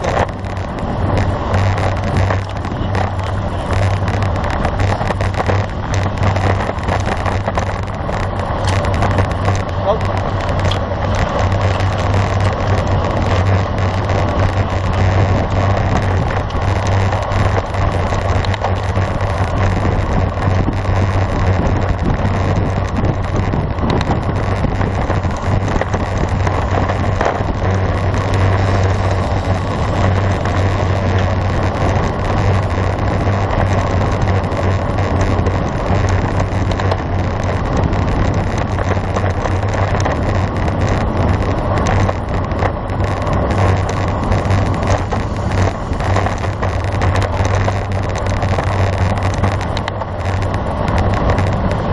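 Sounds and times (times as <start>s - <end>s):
bicycle tyre and road noise: 0.0s - 51.9s
wind rushing on microphone: 0.0s - 51.9s.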